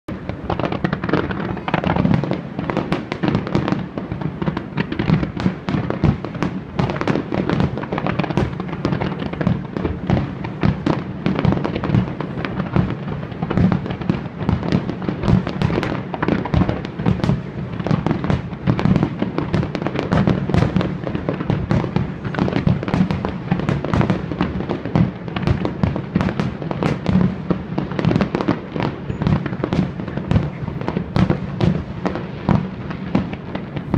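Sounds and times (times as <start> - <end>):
fireworks bangs and crackles: 0.1 - 33.9.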